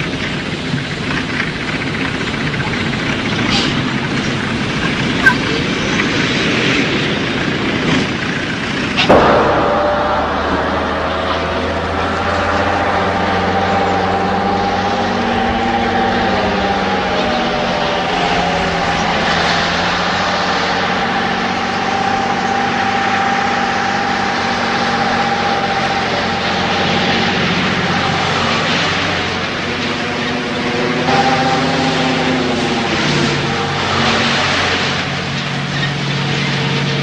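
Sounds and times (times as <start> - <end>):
diesel truck engines droning: 0.0 - 37.0.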